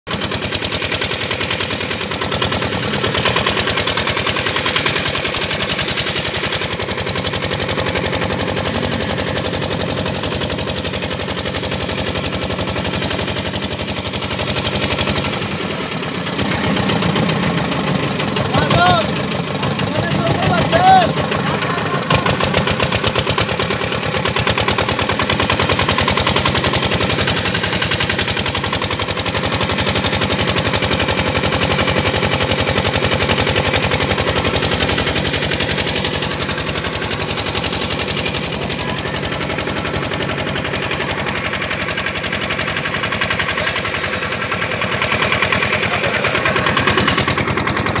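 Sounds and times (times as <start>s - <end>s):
motor boat engine running: 0.1s - 48.0s.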